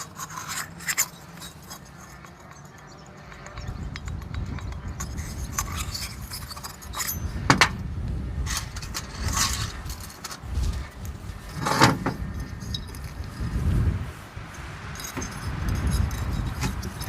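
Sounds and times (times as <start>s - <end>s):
metal tools clinking and scraping: 0.0s - 13.6s, 14.4s - 17.0s.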